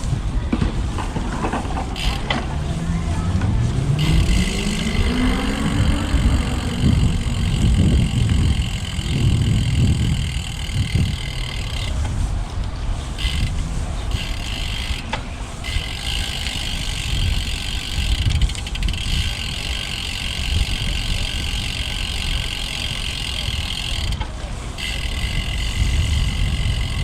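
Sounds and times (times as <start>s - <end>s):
bicycle tyre noise: 0.0s - 27.0s
wind rumble on microphone: 0.0s - 27.0s
freewheel ratcheting buzz: 1.4s - 12.2s, 13.1s - 27.0s
pitched hum: 1.9s - 27.0s.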